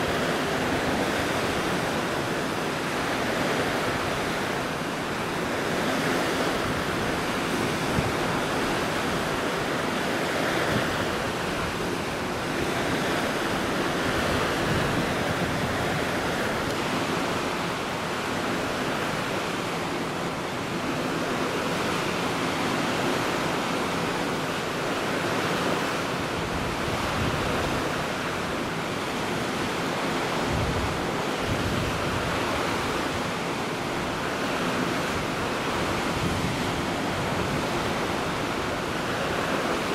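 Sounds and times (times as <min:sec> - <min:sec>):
sea water rushing: 0:00.0 - 0:39.9
wind: 0:00.0 - 0:39.9.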